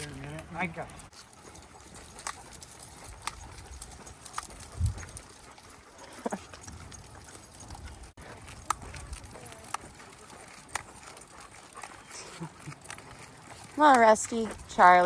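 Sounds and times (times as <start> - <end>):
footsteps: 0.0 - 15.0.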